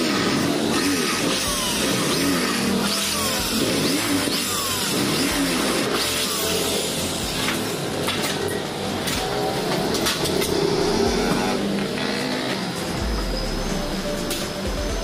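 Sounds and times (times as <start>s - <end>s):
electric drill boring metal: 0.0s - 13.6s
background music: 0.0s - 15.0s.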